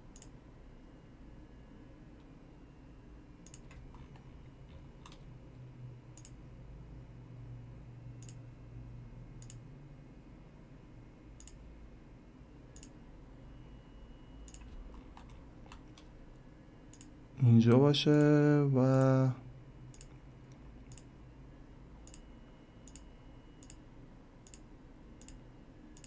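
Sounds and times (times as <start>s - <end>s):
faint steady low hum: 0.0s - 26.0s.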